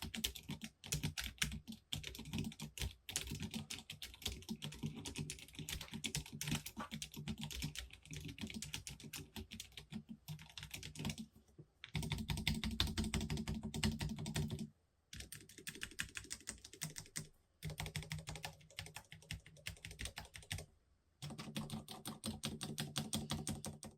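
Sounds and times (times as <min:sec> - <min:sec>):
fast typing on mechanical keyboard: 0:00.0 - 0:11.3, 0:11.9 - 0:20.6, 0:21.2 - 0:23.9.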